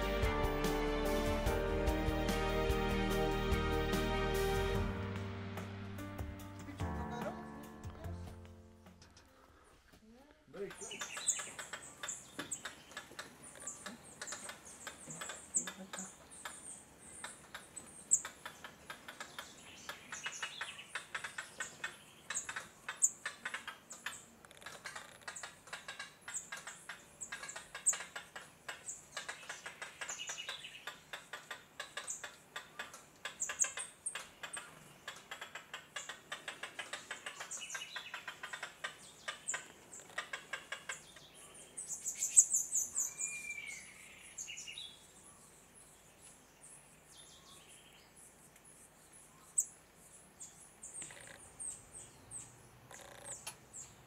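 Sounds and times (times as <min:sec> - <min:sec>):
birds chirping: 0:10.5 - 0:54.0.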